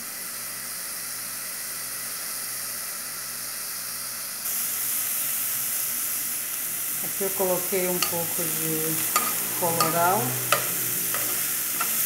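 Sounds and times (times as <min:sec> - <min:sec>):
onion sizzling in oil: 0:00.1 - 0:12.0.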